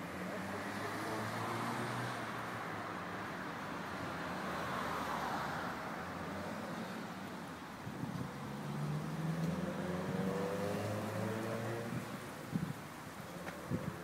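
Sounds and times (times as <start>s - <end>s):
cars passing on road: 0.0s - 14.0s.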